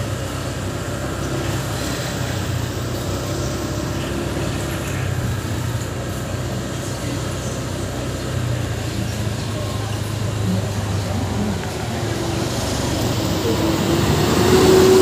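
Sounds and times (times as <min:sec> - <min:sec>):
motorcycle engine running: 0:00.0 - 0:15.0
road and traffic noise: 0:00.0 - 0:15.0.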